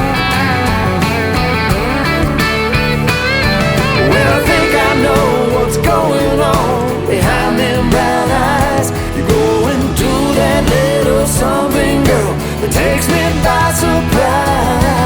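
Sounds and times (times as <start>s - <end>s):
country-pop song with singing: 0.0s - 15.0s.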